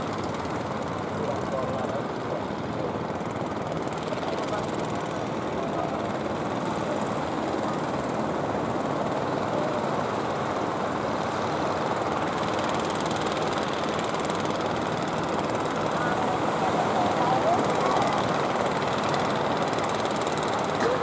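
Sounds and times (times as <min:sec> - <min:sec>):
boat engines running: 0:00.0 - 0:21.0.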